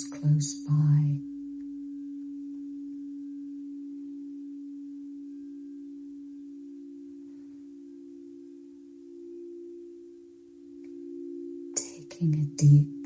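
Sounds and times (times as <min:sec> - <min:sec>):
low pulsing meditation tone: 0:00.0 - 0:13.0.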